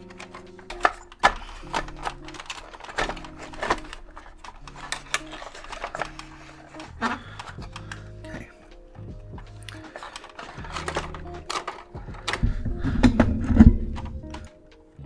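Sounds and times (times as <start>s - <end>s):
plastic parts clicking and knocking: 0.0s - 15.0s
soft background music with synth chords: 0.0s - 15.0s.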